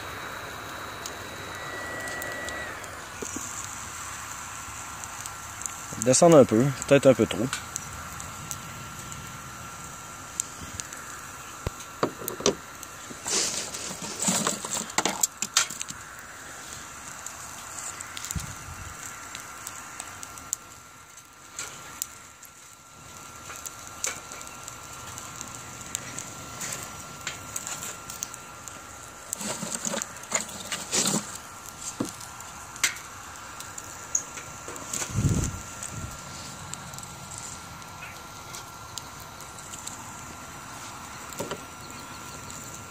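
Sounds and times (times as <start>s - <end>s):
stove fan whine: 0.0s - 42.9s
wood fire crackling and popping: 0.0s - 42.9s.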